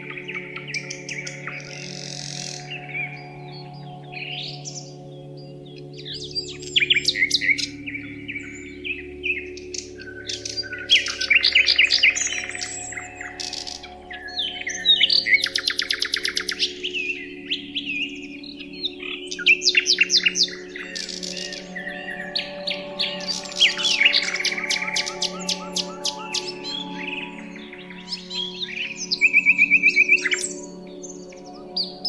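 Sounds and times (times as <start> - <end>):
soft low drone: 0.0 - 32.0
songbirds chirping and trilling: 0.0 - 32.0.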